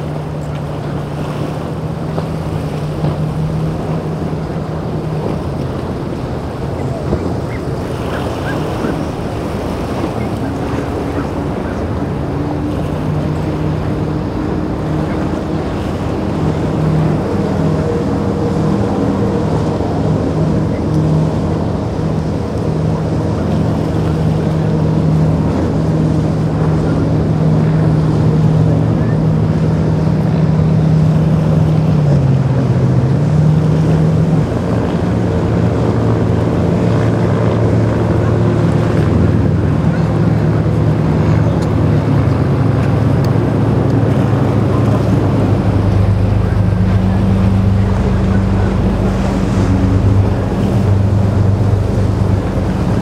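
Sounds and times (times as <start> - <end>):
outboard engines idling: 0.0 - 53.0
water lapping: 0.0 - 53.0
wind on microphone: 0.0 - 53.0.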